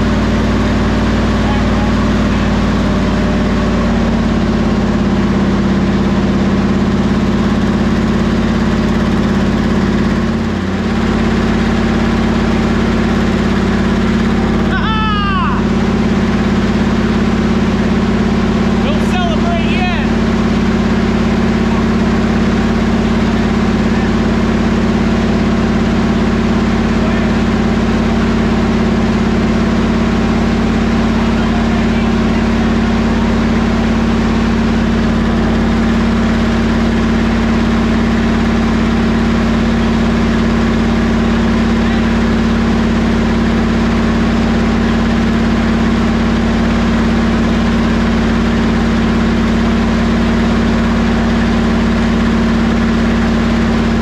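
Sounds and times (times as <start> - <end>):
car engine running steadily: 0.0 - 54.0.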